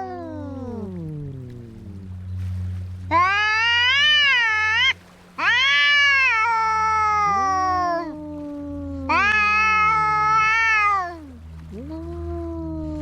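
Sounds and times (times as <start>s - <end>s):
cats yowling in a fight: 0.0s - 2.0s, 3.1s - 13.0s
steady low hum: 0.0s - 13.0s.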